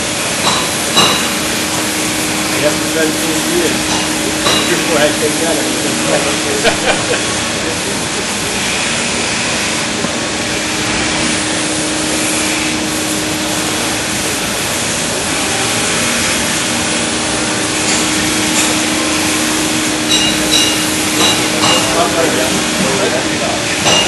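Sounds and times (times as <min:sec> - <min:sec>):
knife grinding hiss: 0:00.5 - 0:22.8.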